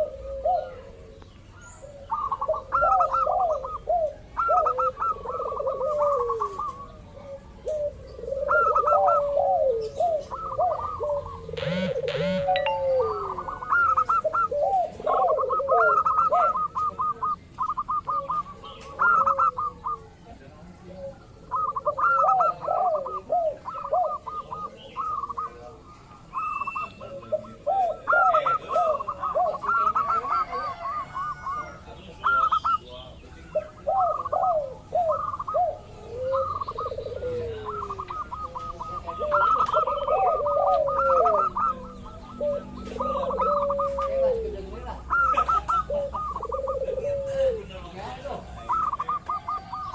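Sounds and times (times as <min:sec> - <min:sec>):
doves cooing: 0:00.0 - 0:49.9
lower-pitched bird notes: 0:00.0 - 0:49.9.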